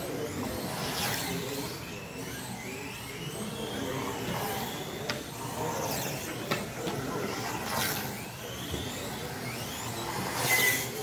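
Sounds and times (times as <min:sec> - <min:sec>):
race car motor whines: 0:00.0 - 0:11.0.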